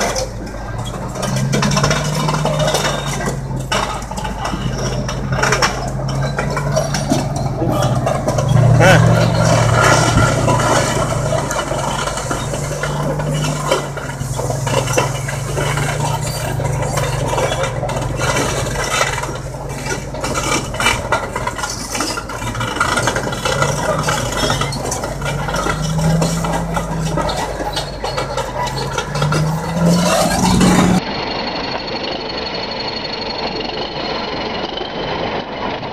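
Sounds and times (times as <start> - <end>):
small knocks and rattles: 0.0 - 31.0
heavy diesel engine droning: 0.0 - 35.9.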